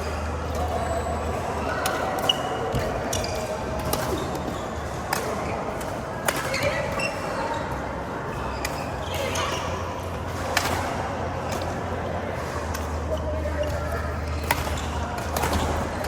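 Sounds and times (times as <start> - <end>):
low background murmur: 0.0 - 16.0.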